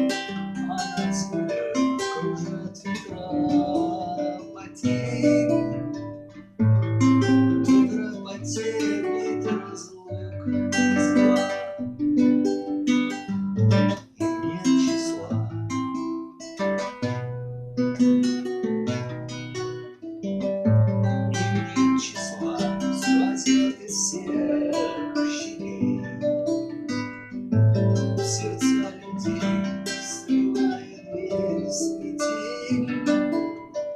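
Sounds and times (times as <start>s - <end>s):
acoustic guitar playing: 0.0s - 33.9s.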